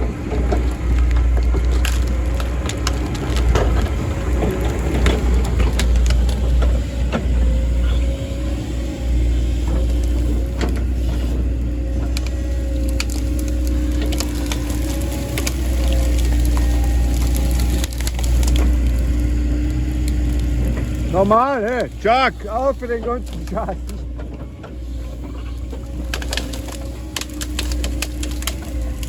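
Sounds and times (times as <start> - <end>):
heavy diesel engine under load: 0.0 - 29.0
wood cracking and snapping: 0.0 - 29.0.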